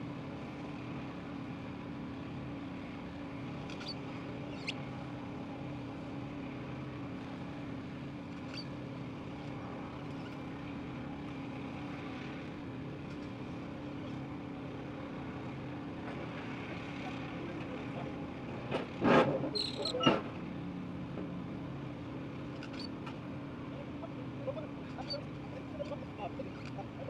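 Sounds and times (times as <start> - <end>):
heavy machine engine droning: 0.0 - 27.0.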